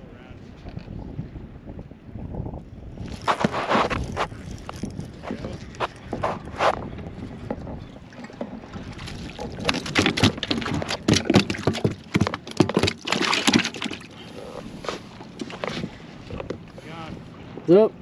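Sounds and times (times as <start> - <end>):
water splashing around a kayak: 2.6 - 18.0.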